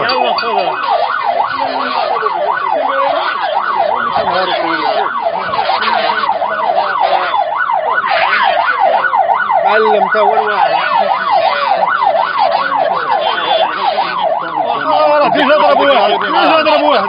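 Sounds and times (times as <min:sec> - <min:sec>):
police siren yelping: 0:00.0 - 0:17.0.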